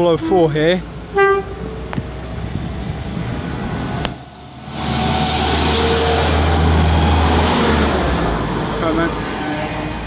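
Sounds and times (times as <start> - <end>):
diesel train engine drone: 0.0 - 10.0.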